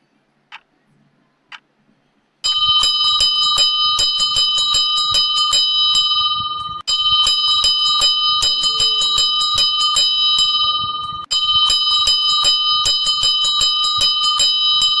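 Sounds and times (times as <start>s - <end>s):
alarm bell ringing: 2.4s - 15.0s.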